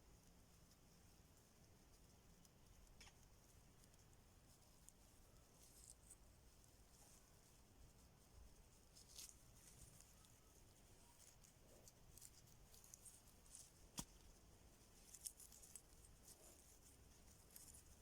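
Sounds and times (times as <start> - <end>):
small clicks and scratches: 0.0 - 18.0.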